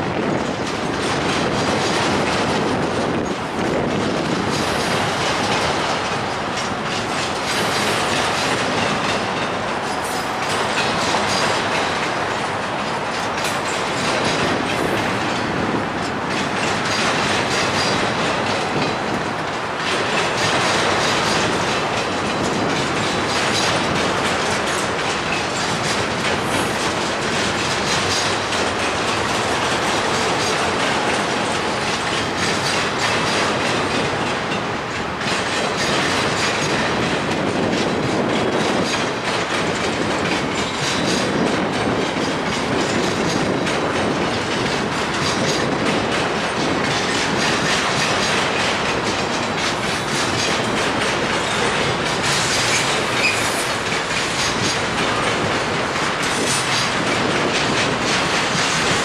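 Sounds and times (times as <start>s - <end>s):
freight train rolling past: 0.0s - 59.0s
wheels clacking over rail joints: 0.0s - 59.0s.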